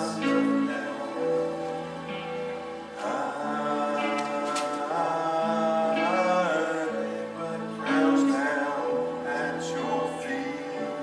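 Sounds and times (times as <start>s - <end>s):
long held chords: 0.0s - 11.0s
person singing: 0.0s - 11.0s.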